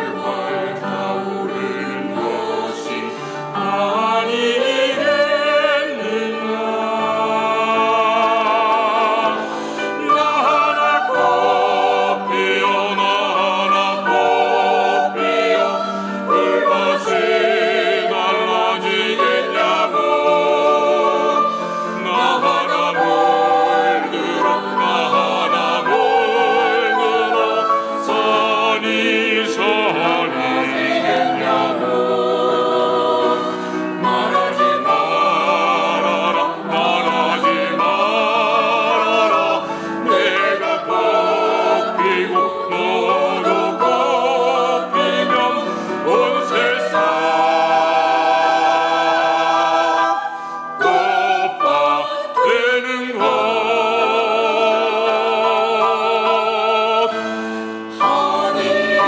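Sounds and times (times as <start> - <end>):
women's choir singing slow song: 0.0 - 59.0.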